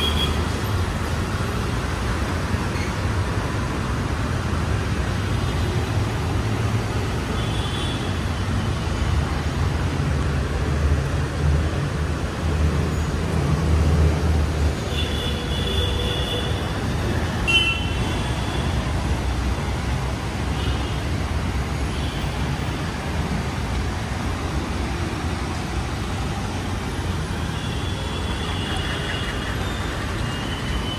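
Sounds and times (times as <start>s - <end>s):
traffic on a wet road: 0.0s - 30.9s.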